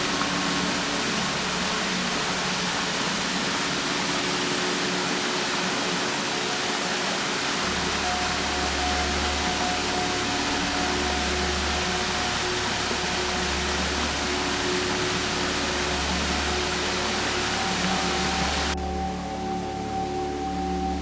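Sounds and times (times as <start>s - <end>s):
waterfall rushing: 0.0s - 18.8s
soft music of held notes: 0.0s - 21.0s.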